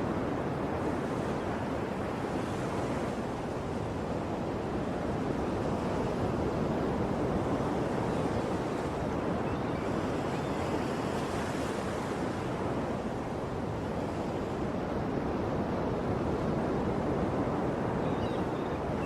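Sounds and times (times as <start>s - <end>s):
sea waves washing ashore: 0.0s - 19.0s.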